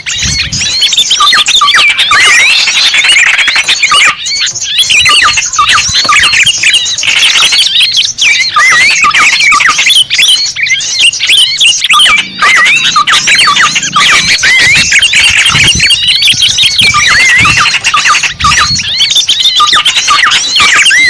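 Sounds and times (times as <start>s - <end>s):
small birds chirping chorus: 0.0s - 21.0s.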